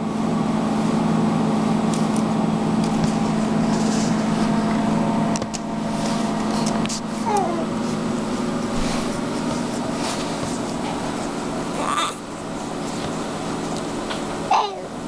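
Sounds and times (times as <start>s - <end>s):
low hum: 0.1s - 15.0s.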